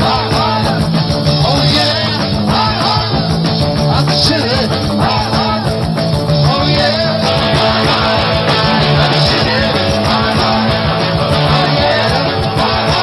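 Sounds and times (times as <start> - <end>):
bass guitar: 0.0 - 13.0
drums: 0.0 - 13.0
electric guitars: 0.0 - 13.0.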